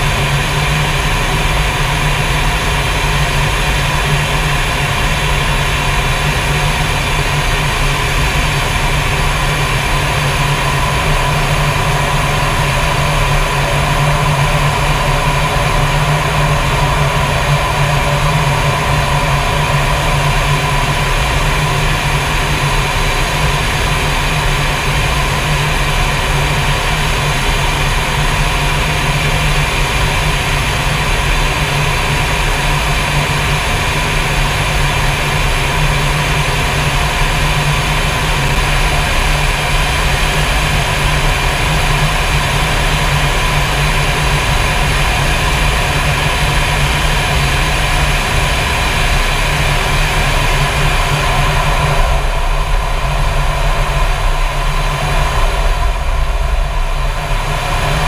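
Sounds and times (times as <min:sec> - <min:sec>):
jet engine and airflow noise: 0:00.0 - 0:58.0.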